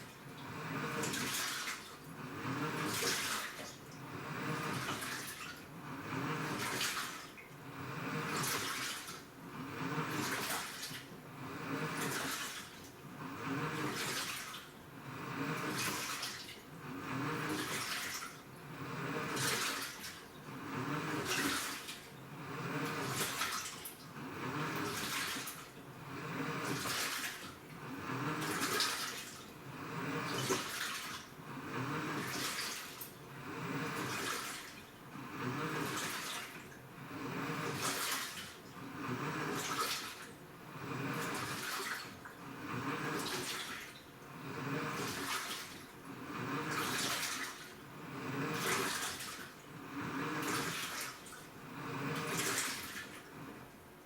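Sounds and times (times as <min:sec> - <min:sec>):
washing machine water sloshing: 0:00.0 - 0:54.0.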